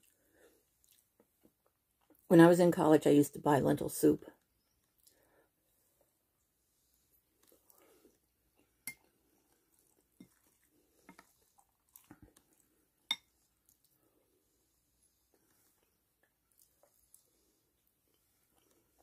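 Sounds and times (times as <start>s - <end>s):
faint chewing: 0.0s - 2.3s, 4.4s - 6.2s, 7.0s - 19.0s.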